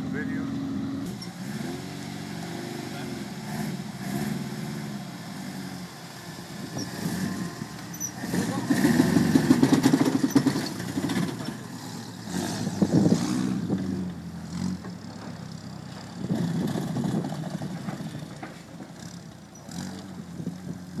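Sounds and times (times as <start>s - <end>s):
truck engine pulling away: 0.0s - 21.0s.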